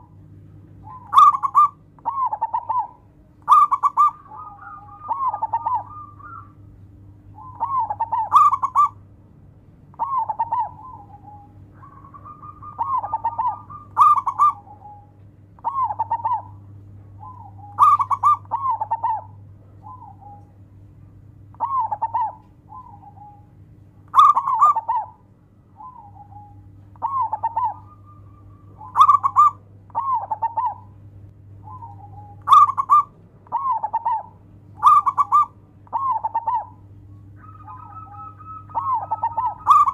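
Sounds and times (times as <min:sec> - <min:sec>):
dove cooing: 0:00.0 - 0:09.0, 0:09.9 - 0:31.0, 0:31.6 - 0:39.9
faint steady hum: 0:00.0 - 0:39.9.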